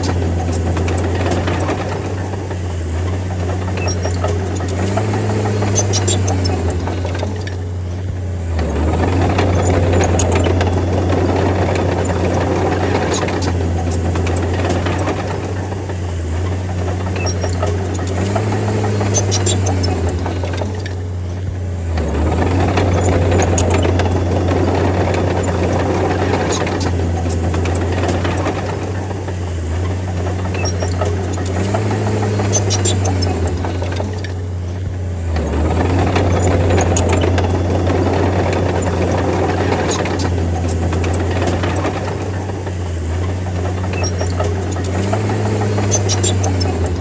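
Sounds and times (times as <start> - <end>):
bulldozer diesel engine: 0.0 - 47.0.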